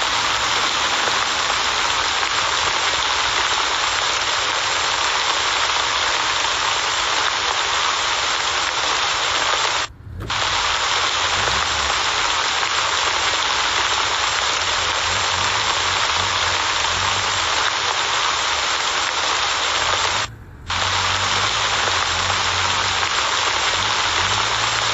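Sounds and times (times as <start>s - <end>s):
heavy rain hissing: 0.0s - 24.9s.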